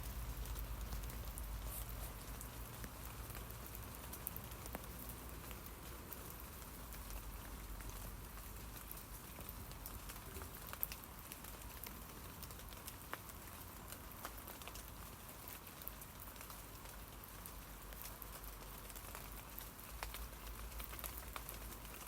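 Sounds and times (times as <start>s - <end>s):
rain pattering on leaves: 0.0s - 22.0s.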